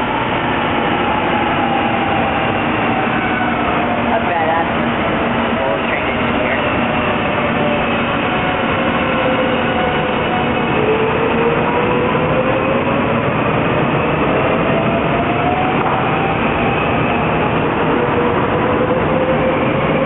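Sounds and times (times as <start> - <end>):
train wheel and running noise: 0.0 - 20.0.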